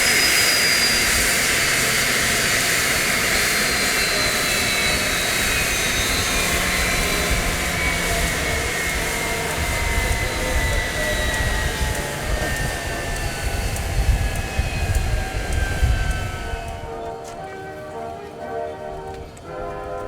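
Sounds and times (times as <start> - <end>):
jet engine with falling whine: 0.0 - 17.2.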